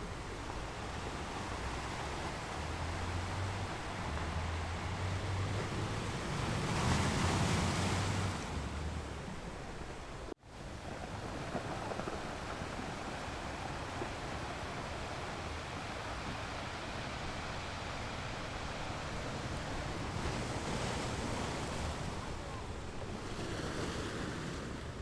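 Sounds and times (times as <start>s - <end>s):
ocean surf washing on shore: 0.0s - 25.0s.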